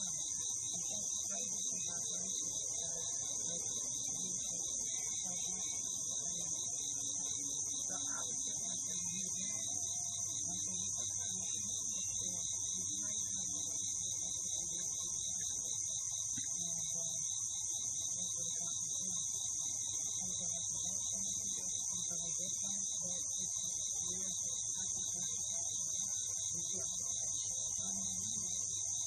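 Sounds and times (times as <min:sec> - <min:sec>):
insect pulsing trill: 0:00.0 - 0:29.0
night insects droning: 0:00.0 - 0:29.0.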